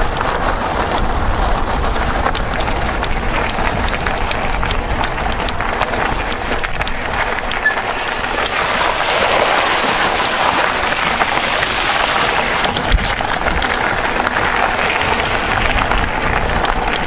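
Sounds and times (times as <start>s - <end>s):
bike tyres rolling on gravel: 0.0s - 17.0s
small clicks and rattles: 0.0s - 17.0s.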